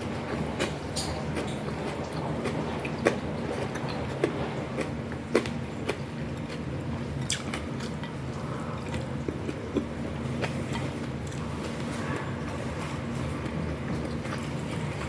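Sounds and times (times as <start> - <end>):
low background hum: 0.0 - 15.0
chewing and biting food: 0.3 - 15.0.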